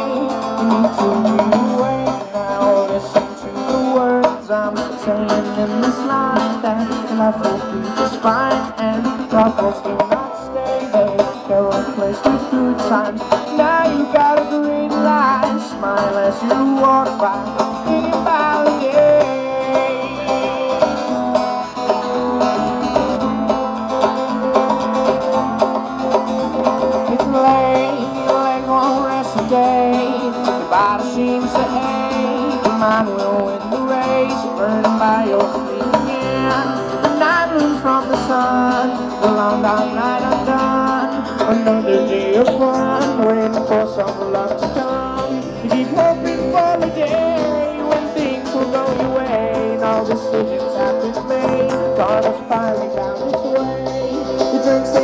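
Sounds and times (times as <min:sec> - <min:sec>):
live band playing: 0:00.0 - 0:55.0.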